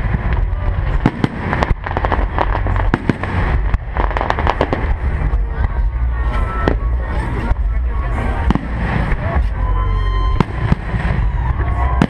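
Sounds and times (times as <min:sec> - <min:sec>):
fireworks bangs and cracks: 0:00.0 - 0:12.0
low background rumble: 0:00.0 - 0:12.0.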